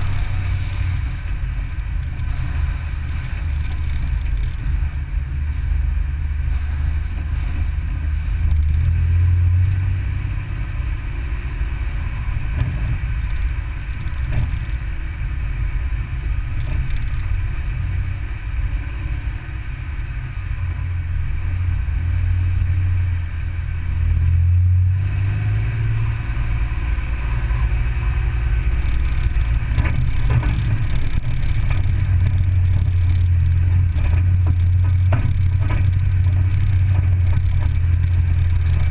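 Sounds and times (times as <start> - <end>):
tyre noise on dirt road: 0.0 - 38.9
vehicle engine drone: 0.0 - 38.9.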